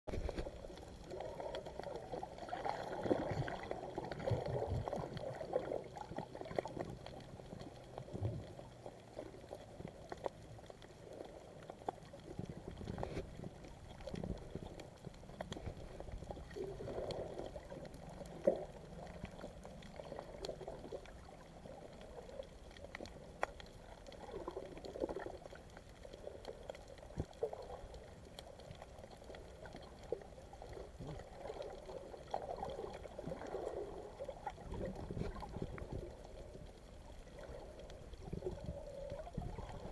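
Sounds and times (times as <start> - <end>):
muffled underwater sloshing: 0.1 - 39.9.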